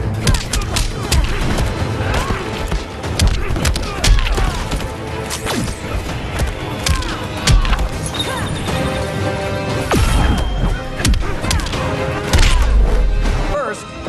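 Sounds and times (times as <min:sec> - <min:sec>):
action music: 0:00.0 - 0:14.0.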